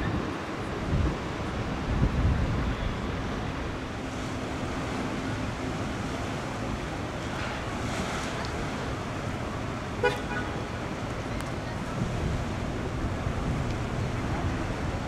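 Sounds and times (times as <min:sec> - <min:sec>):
harbour and sea noise: 0:00.0 - 0:15.0
wind buffeting microphone: 0:00.0 - 0:15.0.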